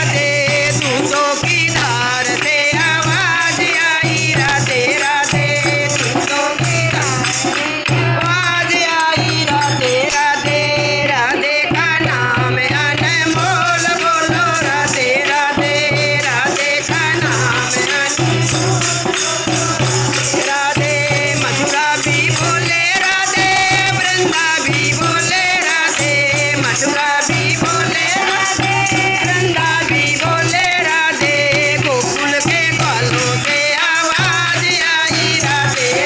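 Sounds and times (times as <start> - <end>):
jingling tambourine percussion: 0.0 - 36.0
person singing devotional song: 0.0 - 36.0.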